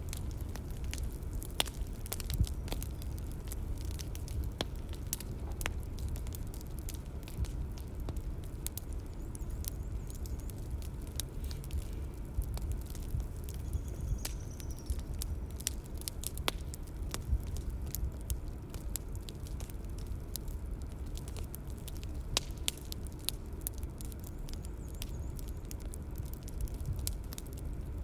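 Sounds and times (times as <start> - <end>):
bonfire crackling: 0.0 - 28.0.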